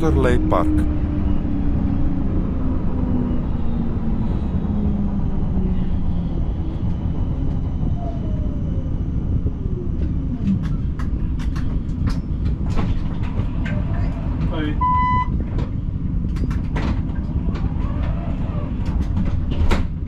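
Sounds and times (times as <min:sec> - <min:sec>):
tram rumbling on track: 0:00.0 - 0:20.0.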